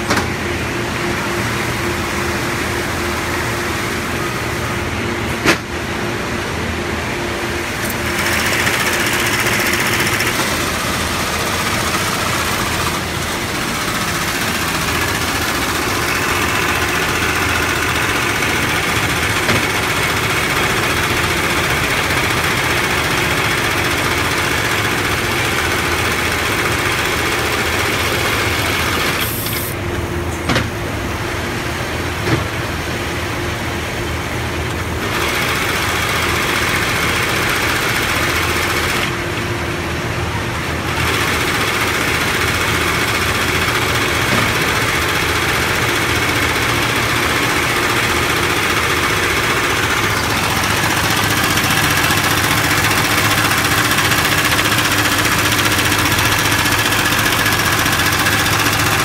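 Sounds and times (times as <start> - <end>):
industrial sewing machine running: 7.4 - 29.8, 33.8 - 59.0.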